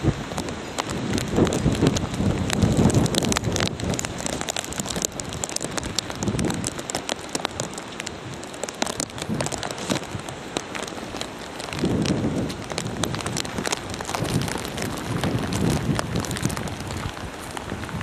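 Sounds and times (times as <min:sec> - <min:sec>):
heavy rain falling: 0:00.0 - 0:18.0
rain drops hitting close by: 0:00.0 - 0:18.0
wind rumble on microphone: 0:00.0 - 0:18.0.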